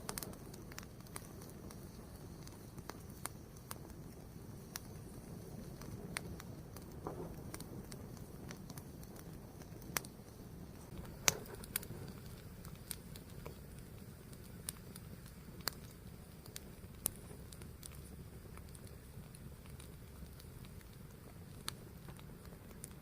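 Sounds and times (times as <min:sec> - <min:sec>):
fire burning: 0:00.0 - 0:23.0
fire crackling and popping: 0:00.0 - 0:23.0.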